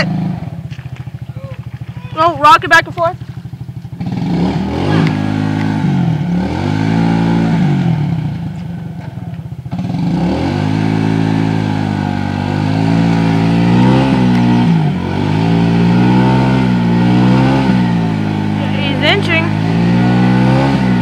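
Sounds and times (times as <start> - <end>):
quad bike engine revving: 0.0 - 21.0.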